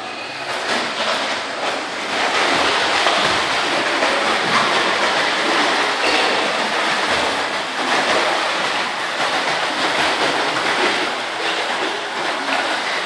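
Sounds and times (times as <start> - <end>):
children splashing in pool: 0.4 - 13.0.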